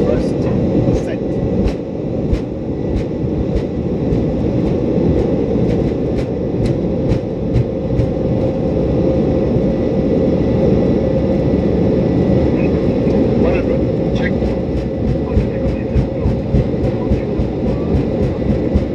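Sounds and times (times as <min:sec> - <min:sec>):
jet engines rumbling: 0:00.0 - 0:18.9.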